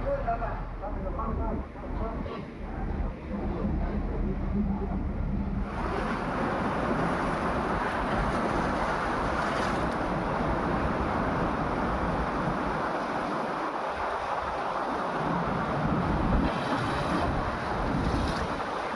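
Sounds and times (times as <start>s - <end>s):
storm water rushing: 0.0s - 18.9s
wind buffeting microphone: 0.0s - 18.9s.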